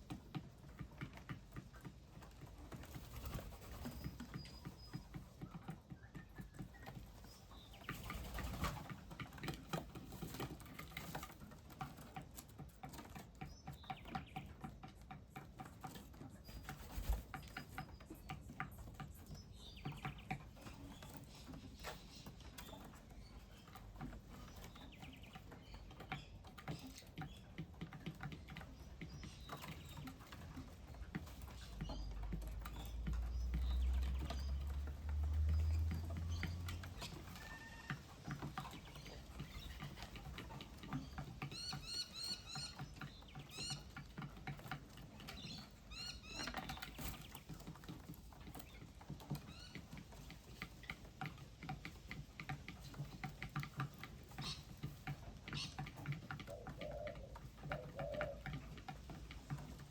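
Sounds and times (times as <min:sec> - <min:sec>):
birds pecking and splashing: 0:00.0 - 0:59.9.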